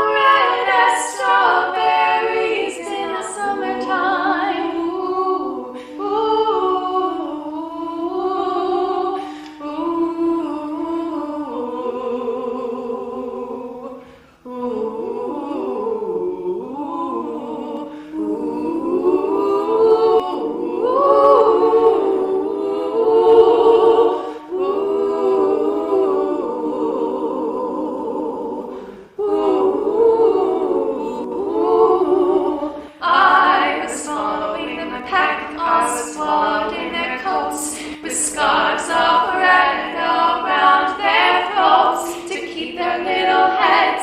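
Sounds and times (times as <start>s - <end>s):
vocal ensemble singing in harmony: 0.0s - 44.0s.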